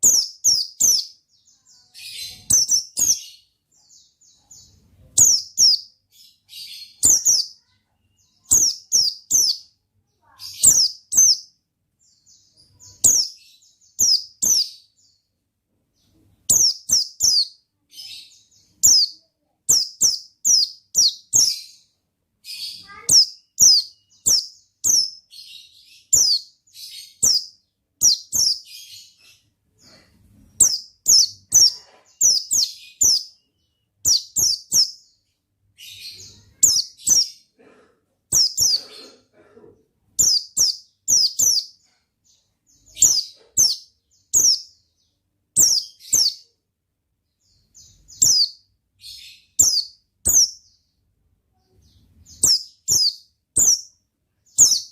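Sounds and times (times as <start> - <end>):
bird singing high chirps: 0.0 - 15.2, 16.0 - 37.5, 38.3 - 39.1, 40.2 - 46.6, 47.3 - 50.9, 51.5 - 54.9.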